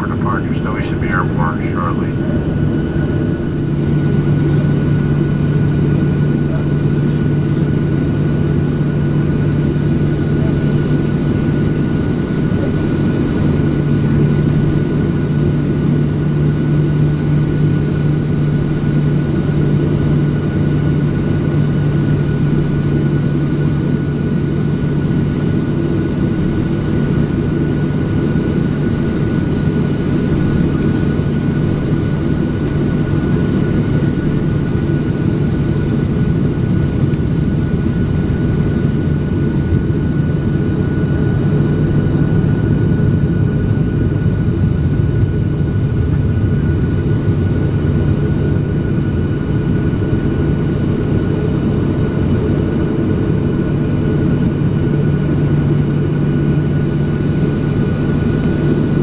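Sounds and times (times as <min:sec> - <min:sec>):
jet engines idling in cabin: 0:00.0 - 0:59.0.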